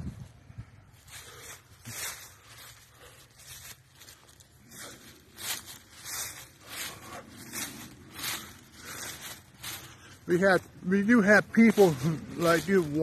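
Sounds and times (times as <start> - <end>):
footsteps in dry leaves: 0.2 - 13.0.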